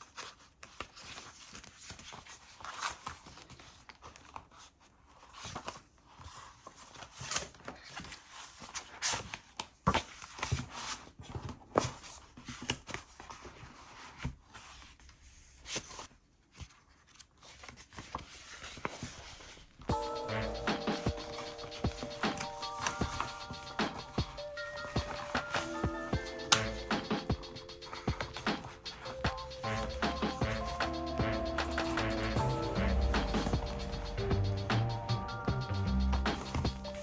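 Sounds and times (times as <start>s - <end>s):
leather notebook rustling: 0.0s - 30.8s.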